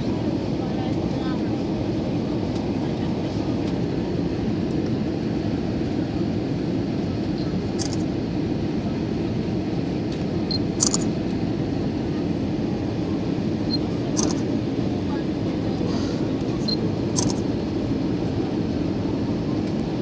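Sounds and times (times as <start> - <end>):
airplane cabin roar: 0.0 - 20.0.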